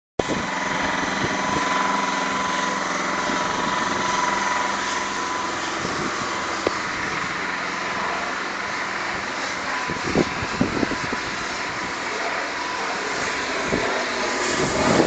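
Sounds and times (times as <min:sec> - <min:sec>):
pressure washer running: 0:00.2 - 0:15.0
water jet hissing: 0:00.6 - 0:15.0.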